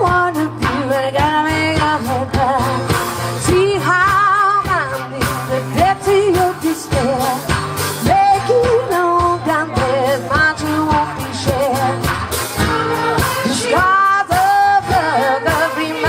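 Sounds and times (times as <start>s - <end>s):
bass line: 0.0s - 16.0s
held vocal melody: 0.0s - 16.0s.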